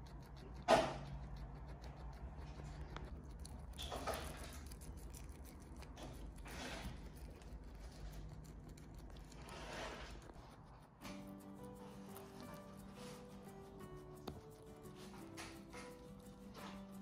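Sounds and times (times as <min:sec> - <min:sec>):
guinea pig chewing: 0:00.0 - 0:17.0.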